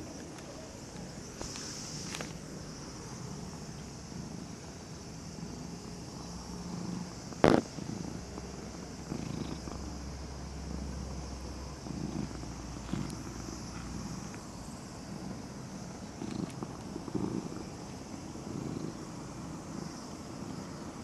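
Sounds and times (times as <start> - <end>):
cat purring: 3.2 - 21.0.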